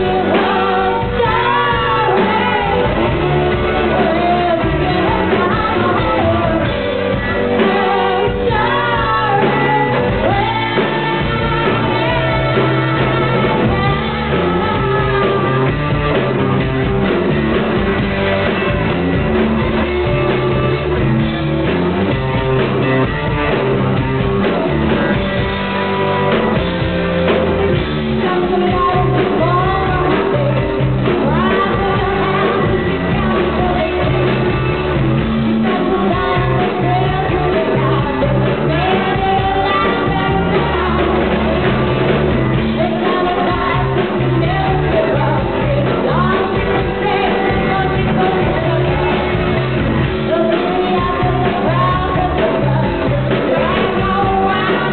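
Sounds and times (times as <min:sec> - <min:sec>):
rock band playing live: 0:00.0 - 0:54.9.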